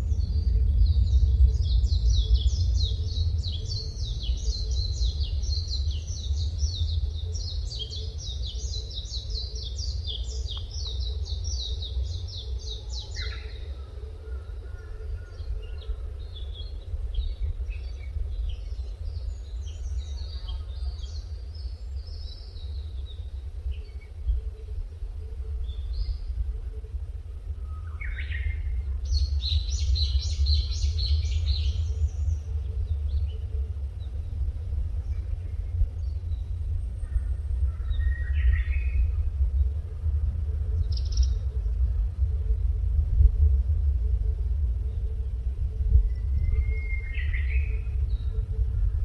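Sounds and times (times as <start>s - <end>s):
forest birds singing: 0.0s - 49.0s
steady low rumble: 0.0s - 49.0s.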